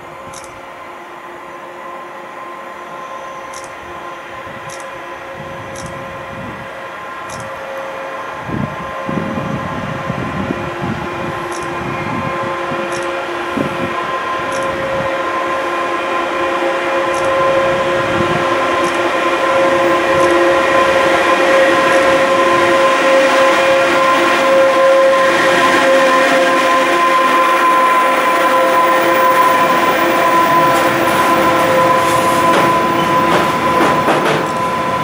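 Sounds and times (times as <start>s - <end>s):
electric locomotive whine: 0.0s - 35.0s
train rail rumble: 0.0s - 35.0s.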